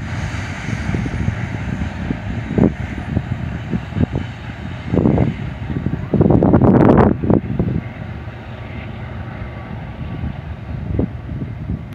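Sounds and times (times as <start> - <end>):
freight train rumbling away: 0.0 - 11.9
wind gusts on microphone: 0.0 - 11.9.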